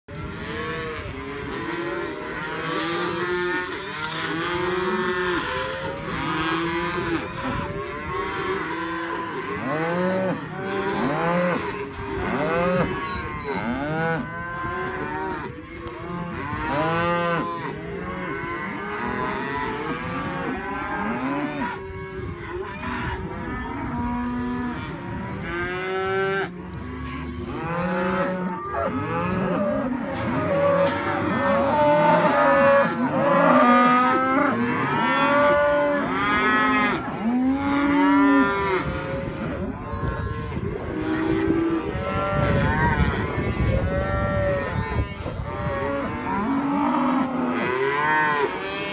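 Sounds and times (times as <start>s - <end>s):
cattle mooing: 0.1s - 48.9s.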